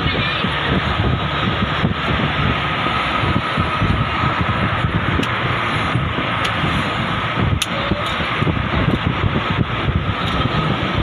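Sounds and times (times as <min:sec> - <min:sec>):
road and wind noise: 0:00.0 - 0:11.0
wind buffeting microphone: 0:00.0 - 0:11.0.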